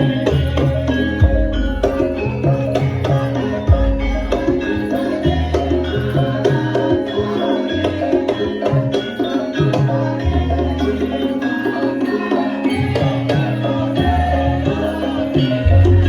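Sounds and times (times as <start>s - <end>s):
ringing metal percussion melody: 0.0s - 16.0s.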